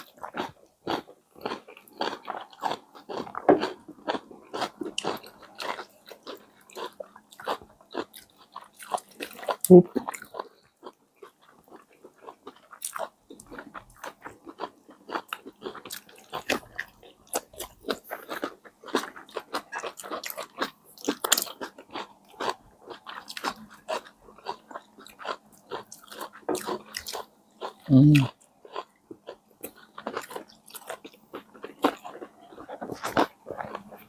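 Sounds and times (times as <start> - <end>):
chewing and lip-smacking: 0.0 - 34.0.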